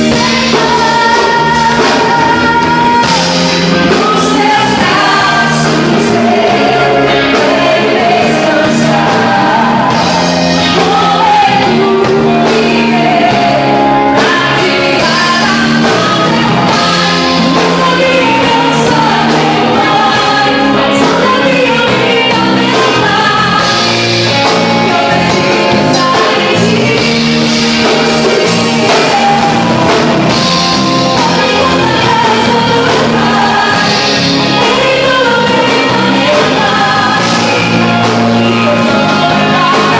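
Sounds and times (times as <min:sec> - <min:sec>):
worship band playing with singing: 0:00.0 - 0:39.9.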